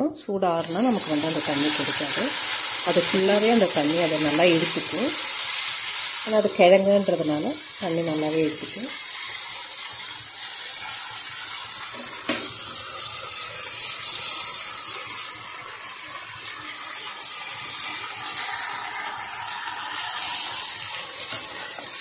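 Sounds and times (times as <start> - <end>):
hot oil sizzling: 0.2 - 22.0.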